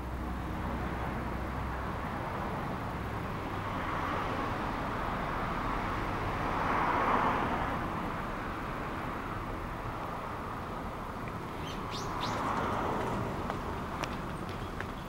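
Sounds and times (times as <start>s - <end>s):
vehicle passing: 2.6s - 15.0s.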